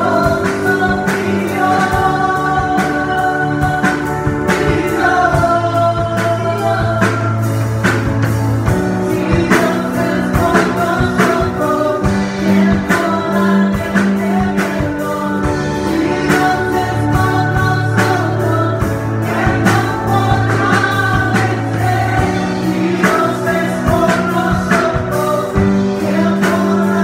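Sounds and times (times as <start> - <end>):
man singing into a microphone: 0.0 - 7.6, 9.1 - 27.0
steady drum beat: 0.0 - 27.0
sustained keyboard chords: 0.0 - 27.0.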